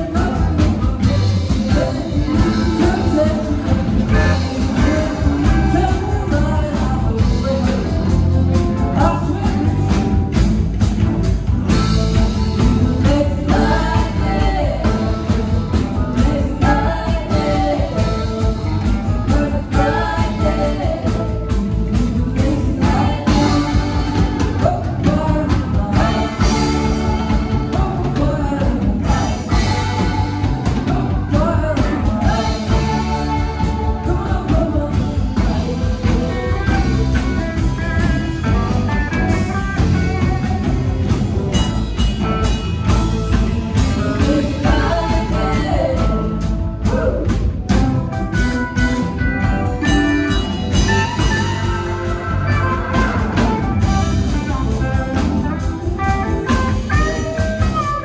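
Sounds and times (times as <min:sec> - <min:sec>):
person singing: 0:00.0 - 0:10.8, 0:11.7 - 0:58.0
bass guitar: 0:00.0 - 0:58.0
drum kit beat: 0:00.0 - 0:58.0
electric guitar: 0:00.0 - 0:58.0.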